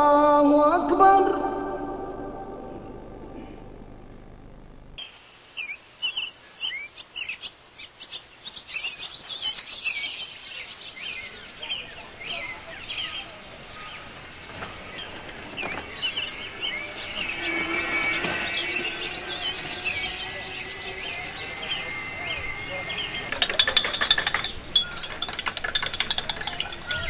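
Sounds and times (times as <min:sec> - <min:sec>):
small birds chirping: 0:05.0 - 0:27.0.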